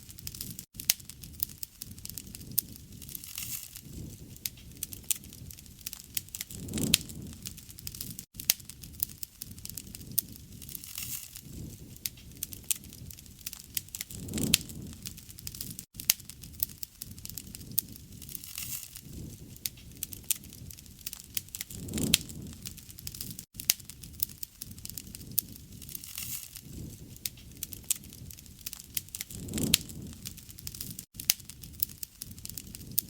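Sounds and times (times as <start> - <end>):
low rumble of flame: 0.0 - 33.0
wood crackling and popping: 0.0 - 33.0.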